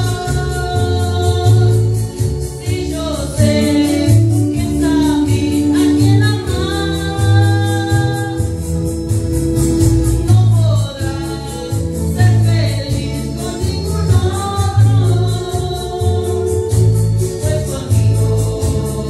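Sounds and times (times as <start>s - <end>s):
man singing: 0.0s - 8.9s, 10.2s - 19.0s
pulsing bass line: 0.0s - 19.0s
steady percussion beat: 0.0s - 19.0s.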